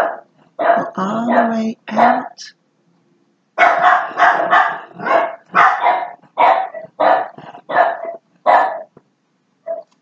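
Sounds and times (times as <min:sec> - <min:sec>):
dog barking: 0:00.0 - 0:02.4, 0:03.6 - 0:09.0, 0:09.6 - 0:09.9.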